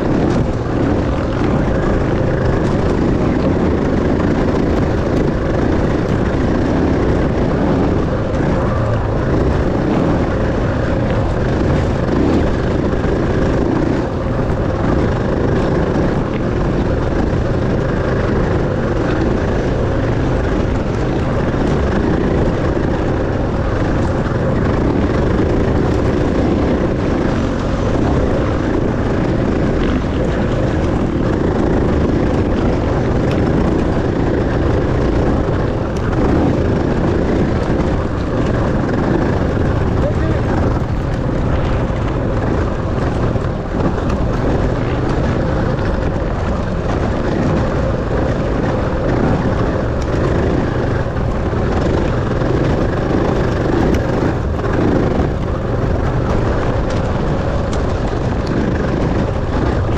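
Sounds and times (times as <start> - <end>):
dense rushing noise: 0.0 - 59.9
dirt bike engine running: 0.0 - 59.9.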